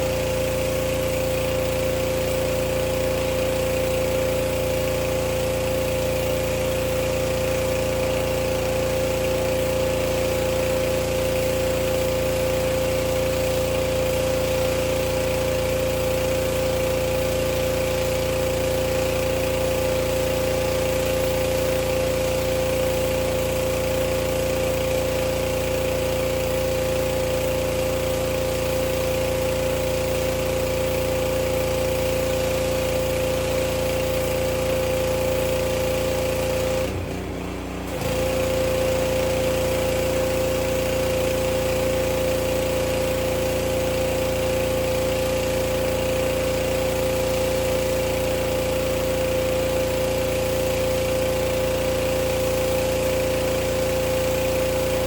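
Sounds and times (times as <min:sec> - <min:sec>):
pressure washer running: 0:00.0 - 0:55.0.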